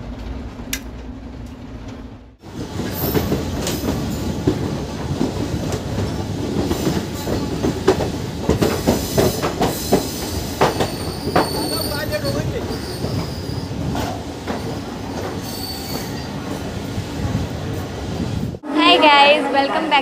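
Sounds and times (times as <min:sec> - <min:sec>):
train wheels rumbling and clacking: 0:00.0 - 0:18.6.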